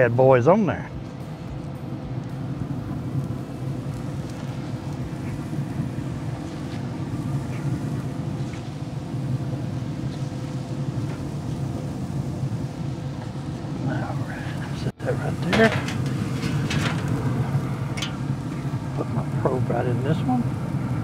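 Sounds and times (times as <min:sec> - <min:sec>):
grill fan humming: 0:00.0 - 0:21.0.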